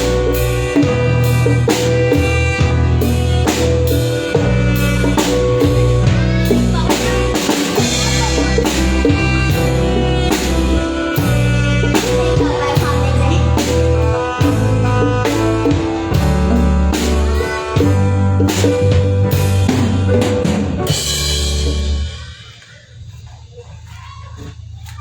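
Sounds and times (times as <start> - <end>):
band playing instrumental: 0.0 - 25.0
sustained bass notes: 0.0 - 25.0.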